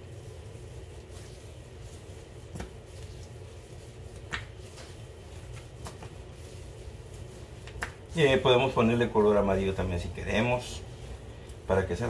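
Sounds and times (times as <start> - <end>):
dough kneaded by hand: 0.0 - 12.0
steady low hum: 0.0 - 12.0.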